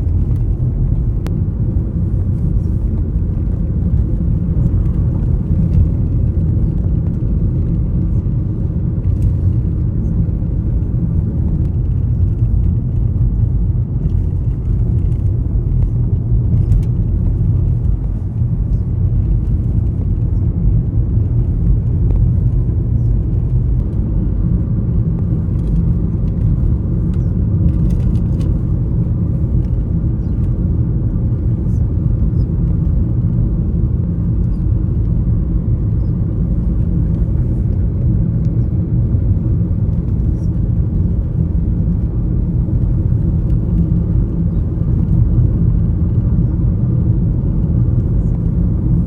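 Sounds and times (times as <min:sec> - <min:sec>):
vehicle low rumble: 0:00.0 - 0:49.0.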